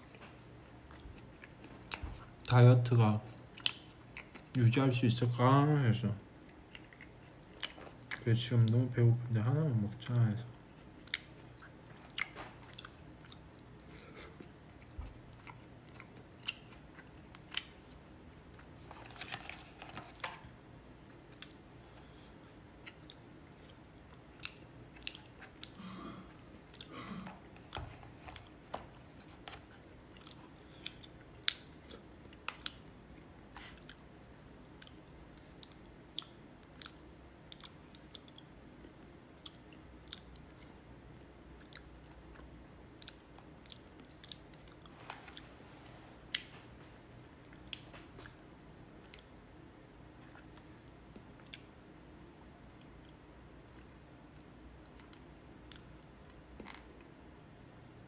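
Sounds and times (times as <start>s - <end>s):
person chewing food: 0.0s - 2.5s, 3.3s - 4.6s, 6.2s - 8.2s, 10.7s - 40.9s, 41.5s - 49.5s, 50.2s - 51.9s, 52.7s - 58.0s.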